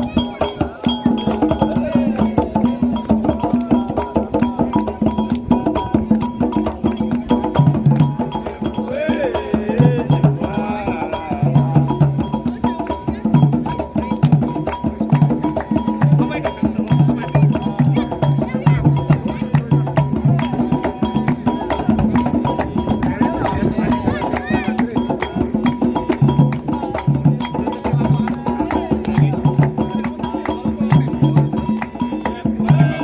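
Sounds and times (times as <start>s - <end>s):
people singing: 0.0s - 12.8s, 15.5s - 33.0s
hand drums playing fast rhythm: 0.0s - 33.0s.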